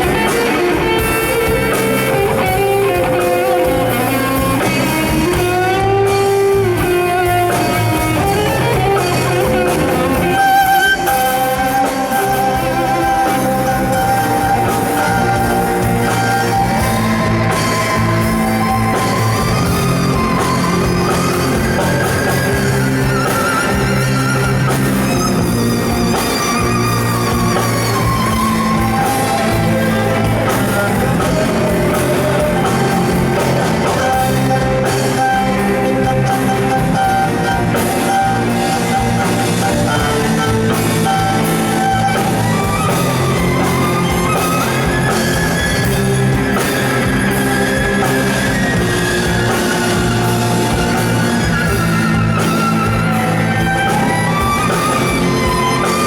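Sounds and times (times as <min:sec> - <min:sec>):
rock band playing: 0:00.0 - 0:56.0
wavering lead melody: 0:00.0 - 0:56.0.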